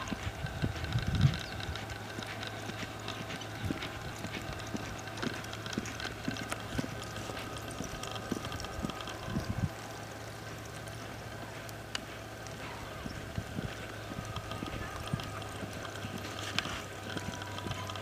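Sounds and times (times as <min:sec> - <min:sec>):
low hum: 0:00.0 - 0:18.0
muffled hoofbeats on dirt: 0:00.0 - 0:18.0.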